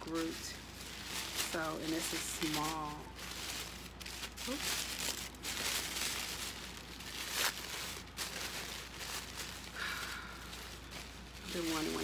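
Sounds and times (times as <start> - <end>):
wrap rustling and crinkling: 0.0 - 12.0.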